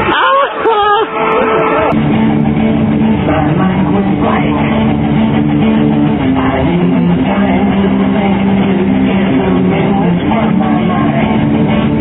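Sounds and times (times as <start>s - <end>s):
guitar background music: 1.0s - 12.0s.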